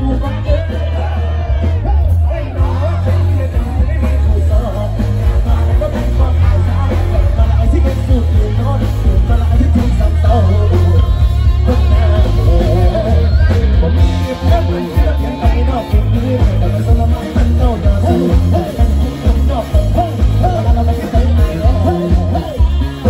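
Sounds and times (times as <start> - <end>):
live band music with heavy bass: 0.0 - 23.0
man singing into microphone: 0.0 - 23.0.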